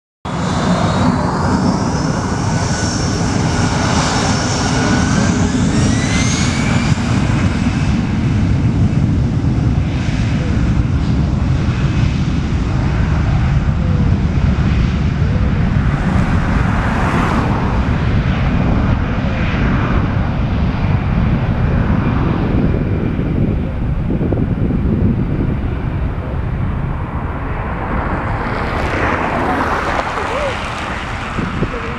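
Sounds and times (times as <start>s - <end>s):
jet engines roaring: 0.3s - 31.9s
rising engine whine: 0.3s - 31.9s.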